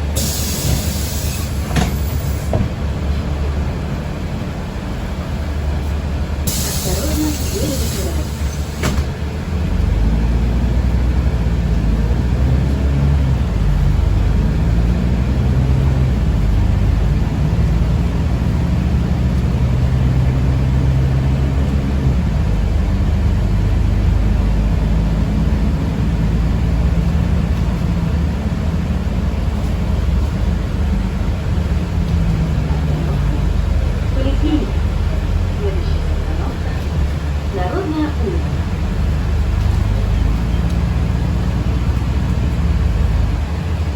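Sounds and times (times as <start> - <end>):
bus drive and tyre rumble: 0.0 - 43.9.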